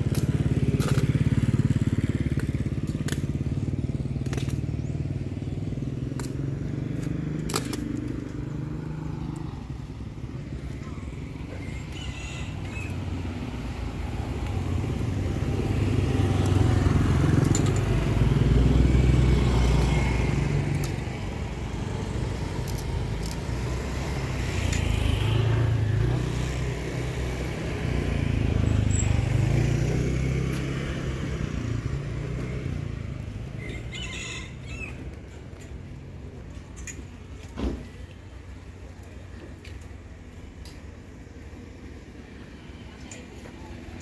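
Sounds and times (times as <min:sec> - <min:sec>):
motorcycle engines passing by: 0:00.0 - 0:44.0.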